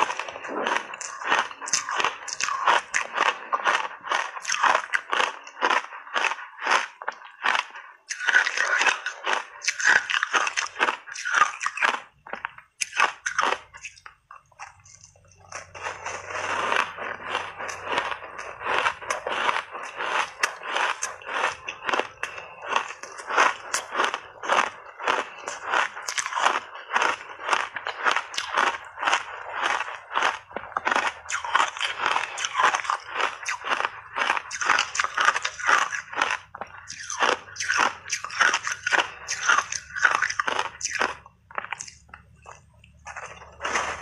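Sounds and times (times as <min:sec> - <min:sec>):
ice crunching in mouth: 0:00.0 - 0:44.0.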